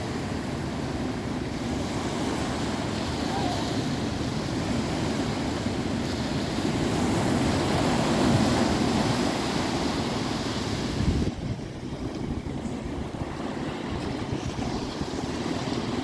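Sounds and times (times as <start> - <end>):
sea surf washing in: 0.0 - 16.0
wind buffeting microphone: 0.0 - 16.0.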